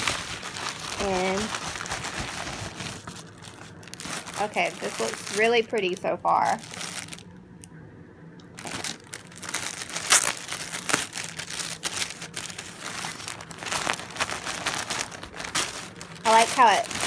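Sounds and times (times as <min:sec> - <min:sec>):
plastic bag crinkling: 0:00.0 - 0:07.3, 0:08.5 - 0:17.0.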